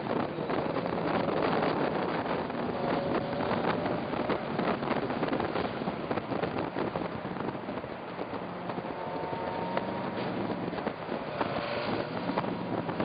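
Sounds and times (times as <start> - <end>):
race car engine: 0.0 - 13.0
wind buffeting microphone: 0.0 - 13.0.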